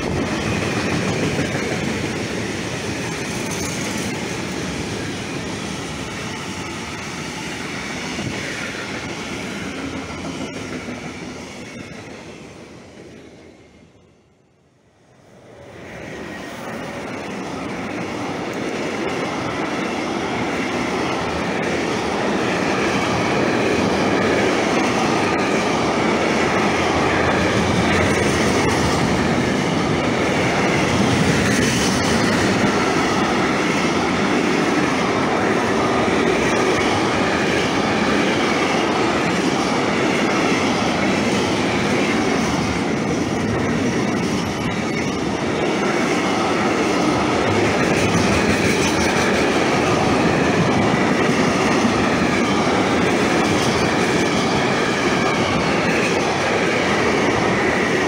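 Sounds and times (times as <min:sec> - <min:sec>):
freight train rumbling and rattling: 0:00.0 - 0:58.0.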